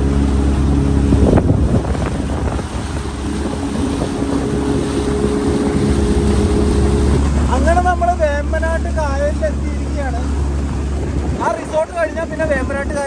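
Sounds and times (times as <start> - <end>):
motorboat engine running: 0.0 - 13.0
wind buffeting microphone: 0.0 - 13.0.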